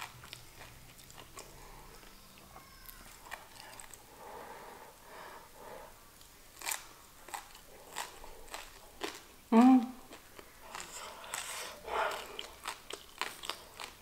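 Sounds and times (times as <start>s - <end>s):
crunchy food being chewed: 0.0s - 4.1s, 6.2s - 9.4s, 10.0s - 14.0s.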